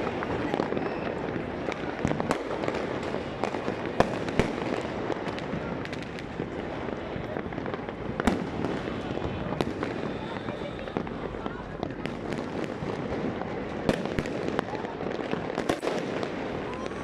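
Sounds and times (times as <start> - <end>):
fireworks crackling: 0.0 - 17.0
loud firework reports: 0.0 - 17.0.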